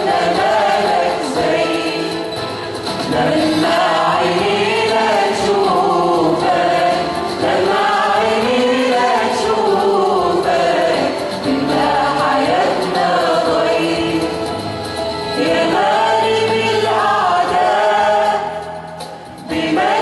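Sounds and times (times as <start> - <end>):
church choir singing a hymn: 0.0 - 14.7, 15.4 - 18.8, 19.4 - 20.0.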